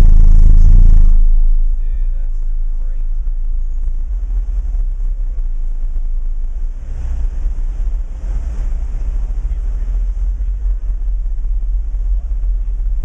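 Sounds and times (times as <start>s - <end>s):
subwoofers playing deep bass: 0.0s - 13.0s.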